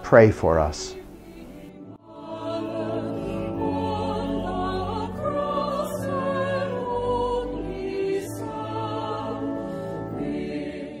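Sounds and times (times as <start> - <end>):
choir singing a hymn: 0.4 - 11.0.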